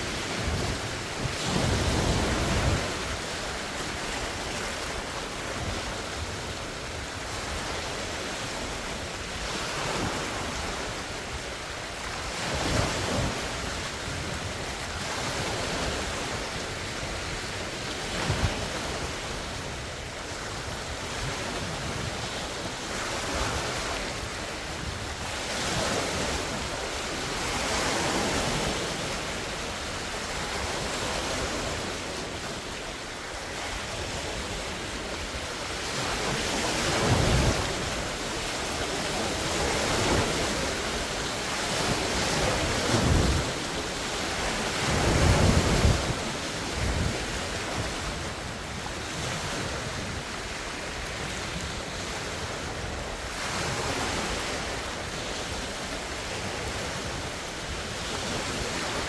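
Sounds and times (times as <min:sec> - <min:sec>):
lake waves splashing: 0:00.0 - 0:59.0
strong wind: 0:00.0 - 0:59.0.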